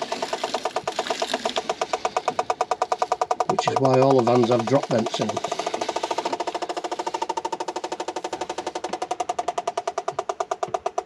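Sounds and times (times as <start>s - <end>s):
gas leak detector ticking: 0.0s - 11.0s.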